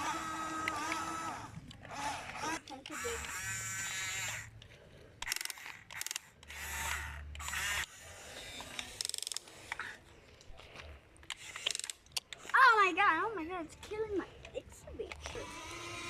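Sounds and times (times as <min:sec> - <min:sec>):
toy excavator motors whirring: 0:00.0 - 0:16.0.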